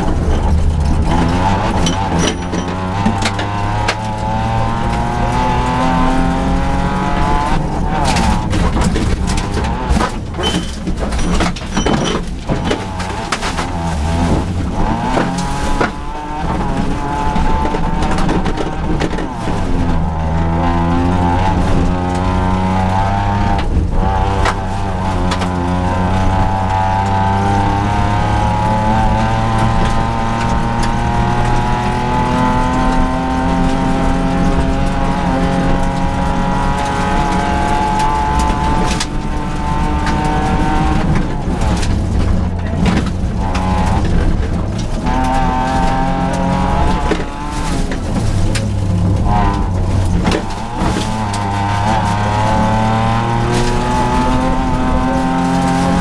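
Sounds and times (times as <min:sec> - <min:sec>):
car knocks and clatter: 0:00.0 - 0:56.0
rally car engine accelerating: 0:00.0 - 0:56.0.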